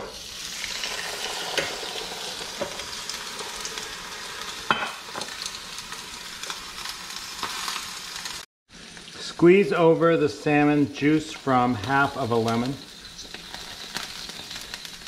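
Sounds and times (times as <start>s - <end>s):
fish sizzling on griddle: 0.0s - 15.0s.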